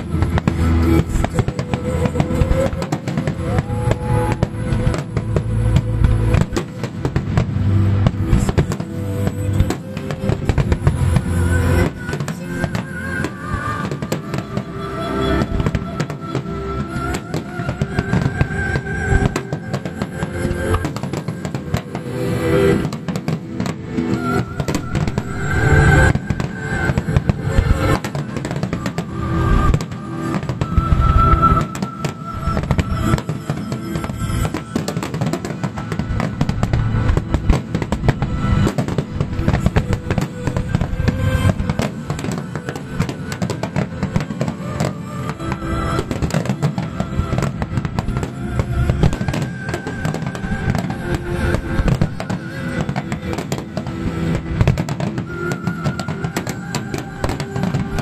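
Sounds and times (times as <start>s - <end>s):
fireworks bursting: 0.0s - 58.0s
music playing: 0.0s - 58.0s.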